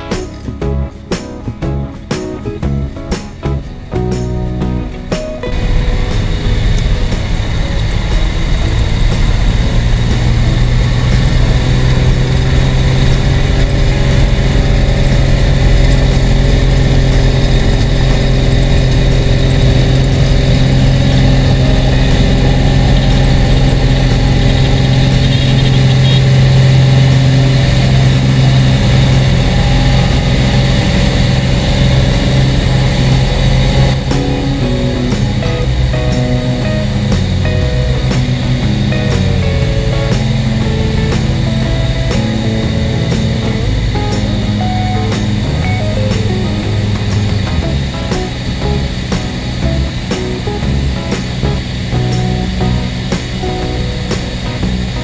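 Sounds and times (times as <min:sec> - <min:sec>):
airplane engine drone: 0:00.0 - 0:55.0.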